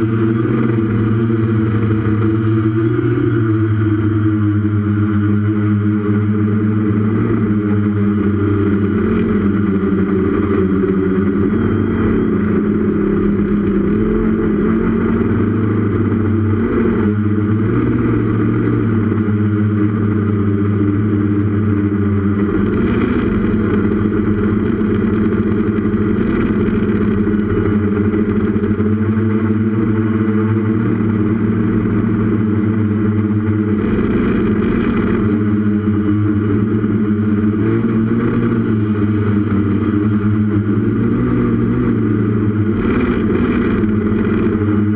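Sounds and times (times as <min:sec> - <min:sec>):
drone motors humming: 0:00.0 - 0:44.9.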